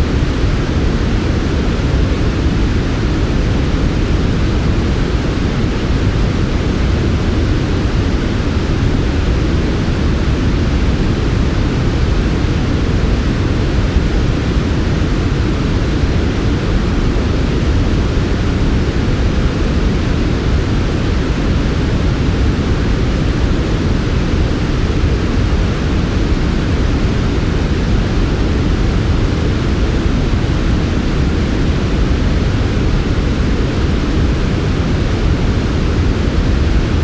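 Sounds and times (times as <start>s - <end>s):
synthetic white noise: 0.0s - 37.0s.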